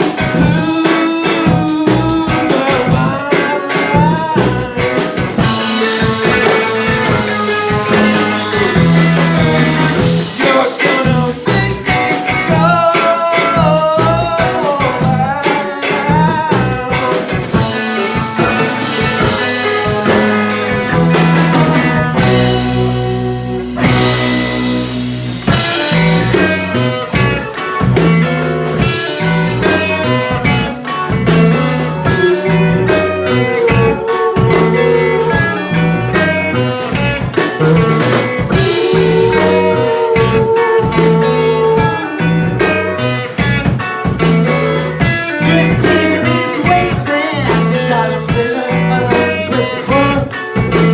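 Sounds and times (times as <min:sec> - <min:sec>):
held lead guitar notes: 0:00.0 - 0:50.9
rock band playing instrumental: 0:00.0 - 0:50.9.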